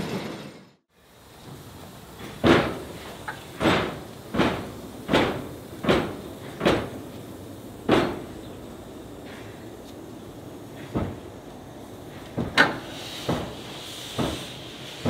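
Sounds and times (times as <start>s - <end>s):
steam locomotive exhaust chuffs: 0.9s - 15.0s.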